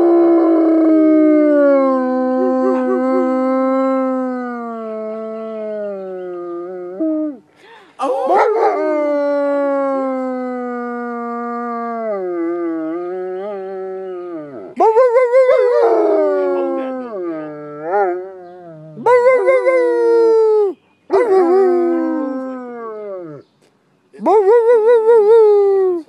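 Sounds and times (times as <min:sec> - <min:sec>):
dog howling: 0:00.0 - 0:07.4, 0:08.1 - 0:23.4.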